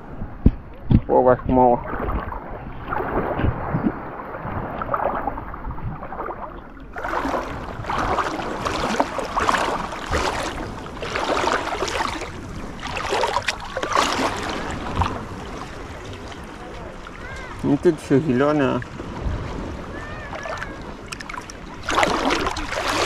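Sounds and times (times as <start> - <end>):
sea water sloshing and splashing: 0.8 - 23.0.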